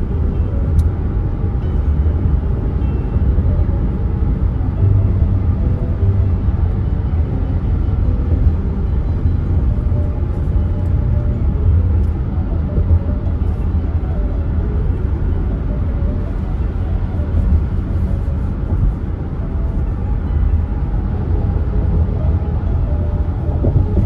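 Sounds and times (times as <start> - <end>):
car interior road rumble: 0.0 - 24.0.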